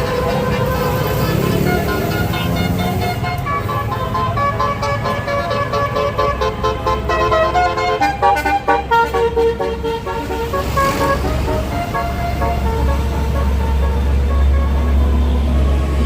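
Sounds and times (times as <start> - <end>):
bus engine rumbling: 0.0 - 16.0
multi-tone bus air horn: 0.0 - 16.0.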